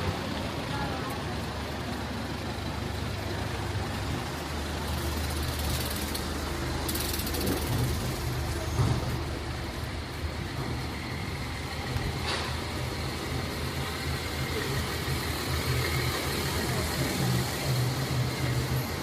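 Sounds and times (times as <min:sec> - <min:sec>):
passing traffic: 0:00.0 - 0:19.0
vehicle engine running: 0:00.0 - 0:19.0.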